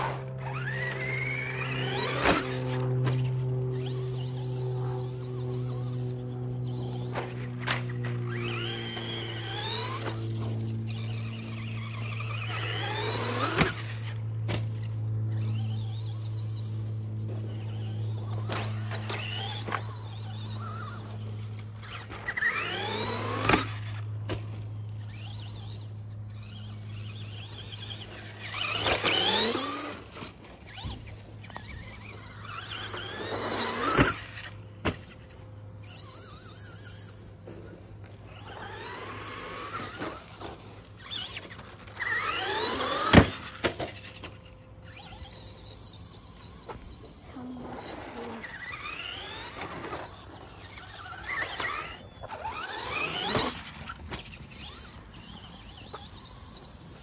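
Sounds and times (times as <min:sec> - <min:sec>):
rc truck motor whine: 0:00.0 - 0:57.0.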